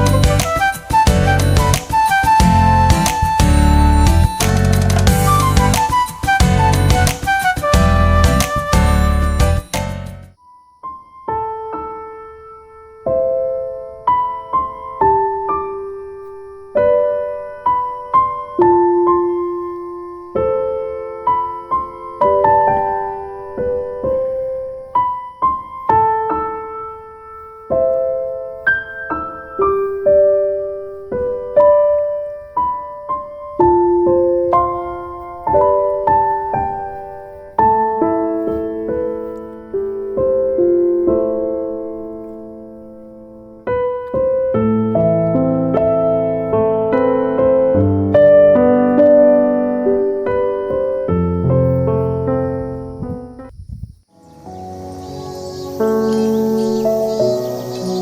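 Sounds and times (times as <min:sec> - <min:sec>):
soft solo piano music: 0:00.0 - 0:53.5, 0:54.1 - 0:58.0.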